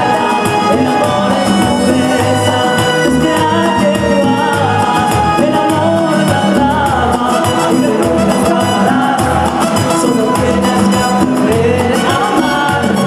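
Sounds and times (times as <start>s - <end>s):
man singing into microphone: 0.0s - 13.0s
song with steady beat: 0.0s - 13.0s.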